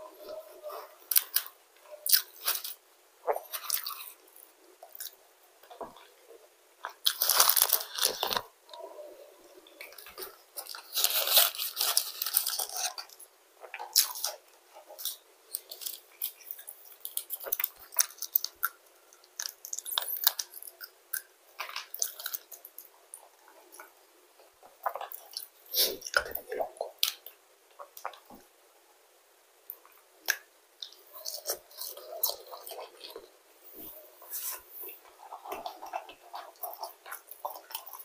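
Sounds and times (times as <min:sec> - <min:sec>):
person chewing: 0:00.2 - 0:06.1, 0:06.8 - 0:08.8, 0:09.8 - 0:28.4, 0:29.7 - 0:38.0.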